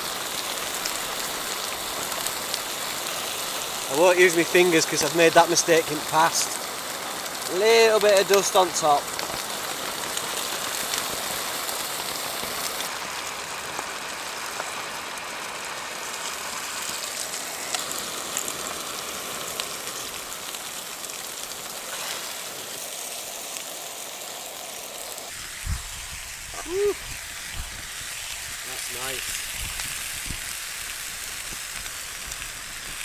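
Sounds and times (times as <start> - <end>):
rain drumming on tent fabric: 0.0 - 33.0
wind: 0.0 - 33.0.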